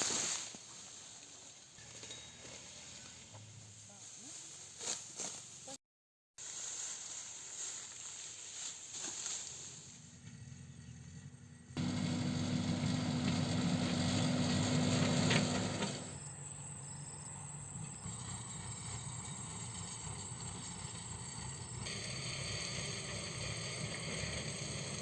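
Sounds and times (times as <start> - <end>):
engine humming: 0.6 - 5.6, 8.6 - 25.0.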